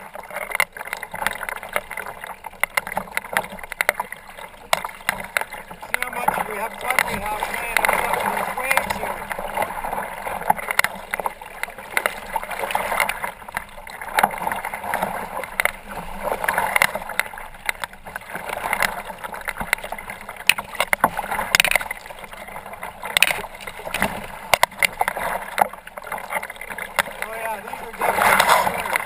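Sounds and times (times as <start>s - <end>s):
waves splashing against kayak: 0.0s - 29.0s.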